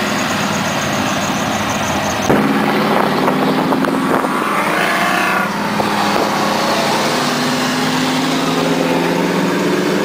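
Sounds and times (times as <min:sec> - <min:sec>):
pickup truck engines revving: 0:00.0 - 0:10.0.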